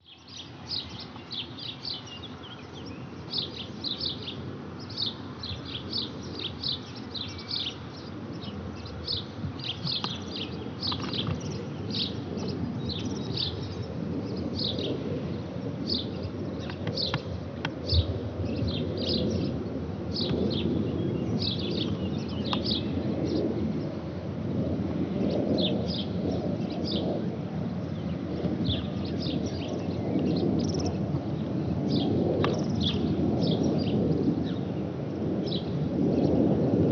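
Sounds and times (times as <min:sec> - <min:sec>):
small birds chirping: 0:00.0 - 0:24.0, 0:27.8 - 0:34.8
distant jet rumble: 0:00.0 - 0:36.9.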